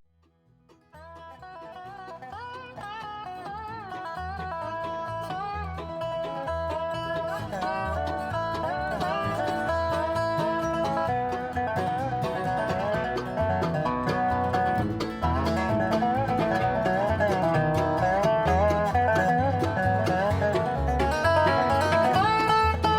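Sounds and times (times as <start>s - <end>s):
bluegrass music with banjo and guitar: 0.2s - 22.9s.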